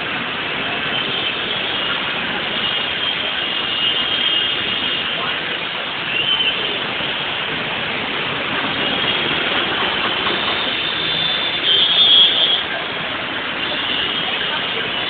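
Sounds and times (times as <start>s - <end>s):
traffic through flooded streets: 0.0s - 15.0s.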